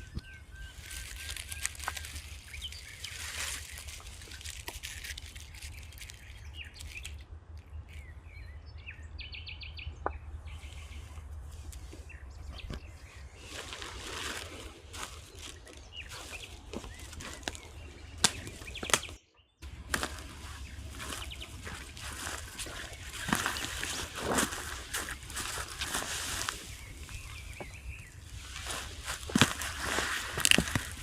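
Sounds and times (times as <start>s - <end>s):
birds chirping: 0.0s - 4.5s, 5.1s - 31.0s
steady low rumble: 0.0s - 31.0s
rustling: 0.6s - 7.2s, 10.6s - 31.0s.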